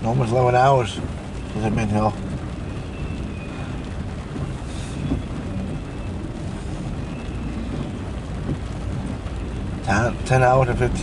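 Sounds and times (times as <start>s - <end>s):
wind on microphone: 0.9s - 11.0s.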